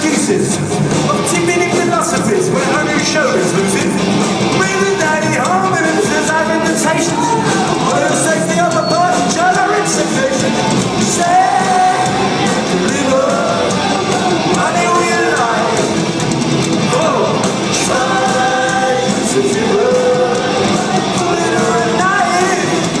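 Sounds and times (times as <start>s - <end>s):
man singing: 0.0s - 16.0s, 16.8s - 23.0s
live rock band: 0.0s - 23.0s.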